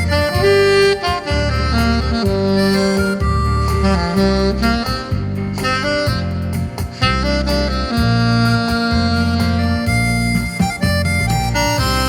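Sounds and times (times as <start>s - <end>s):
instrumental backing track: 0.0s - 12.0s
saxophone melody: 0.0s - 12.0s.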